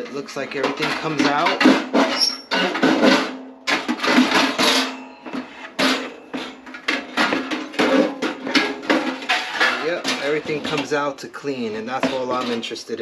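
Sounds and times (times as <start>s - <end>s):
metal grill parts clattering: 0.0s - 11.1s.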